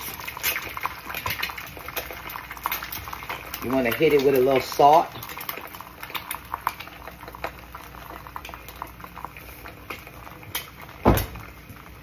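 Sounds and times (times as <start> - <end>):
eggs sizzling in oil: 0.0 - 12.0
oil crackling and popping: 0.0 - 12.0.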